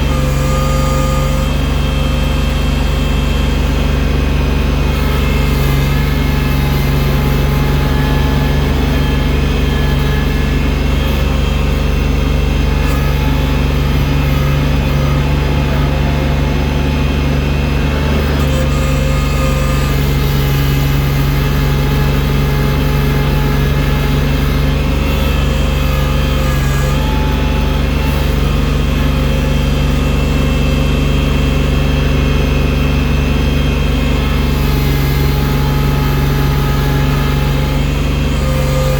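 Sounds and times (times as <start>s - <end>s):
snow-clearing machine engine running: 0.0s - 38.9s.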